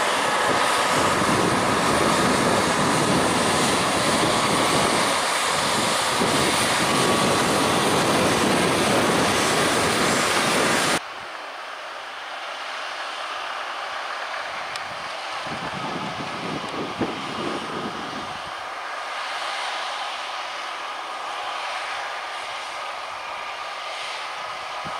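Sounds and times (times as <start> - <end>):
distant tractor working: 0.0 - 24.9.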